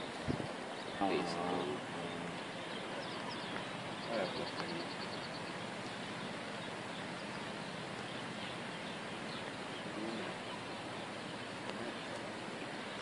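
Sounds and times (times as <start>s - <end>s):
faint bird chirps: 0.0s - 13.0s
outdoor background noise: 0.0s - 13.0s.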